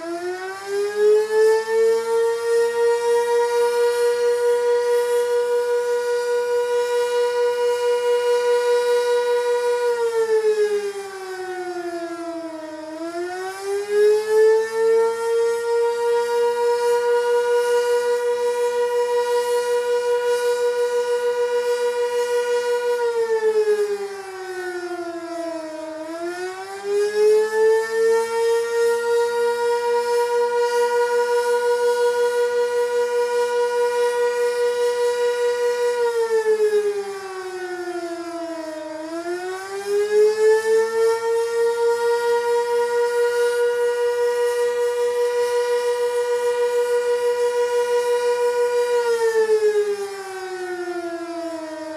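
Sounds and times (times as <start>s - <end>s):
mechanical warning siren: 0.0s - 51.9s.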